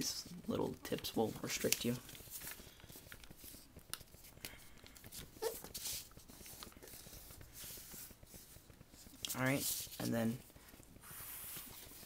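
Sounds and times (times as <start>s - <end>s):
paper rustling and crackling: 0.9s - 12.0s.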